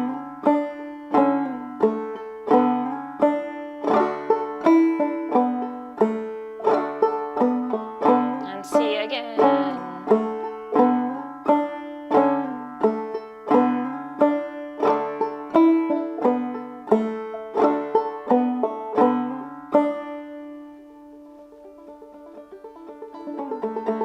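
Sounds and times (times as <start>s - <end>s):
banjo playing: 0.0s - 24.0s.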